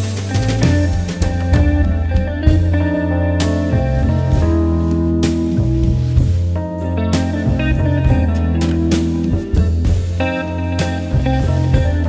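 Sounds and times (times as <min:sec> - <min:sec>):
drum hit: 0:00.0 - 0:06.6, 0:07.2 - 0:12.0
guitar-led instrumental music: 0:00.0 - 0:12.0.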